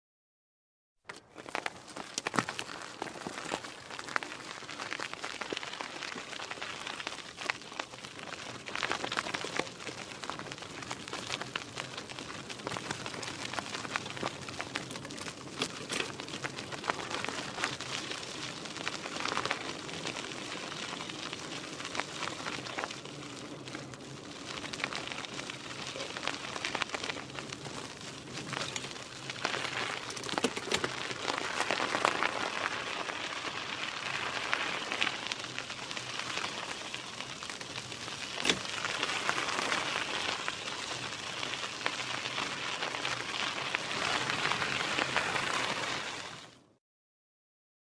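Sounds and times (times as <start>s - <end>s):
bike tyres rolling over gravel: 1.0s - 46.8s.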